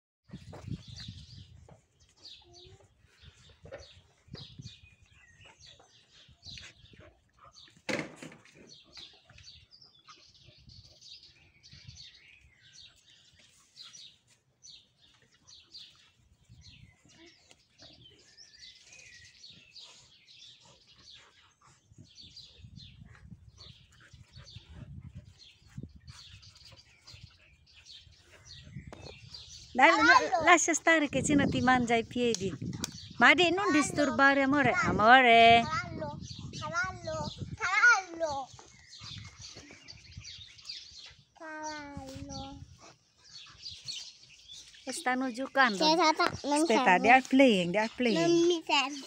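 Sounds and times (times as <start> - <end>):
songbirds chirping: 0.3 - 49.0.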